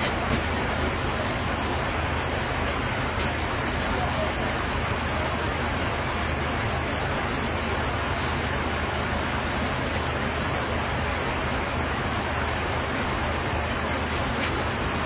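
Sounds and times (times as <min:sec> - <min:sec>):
airliner cabin drone: 0:00.0 - 0:15.0.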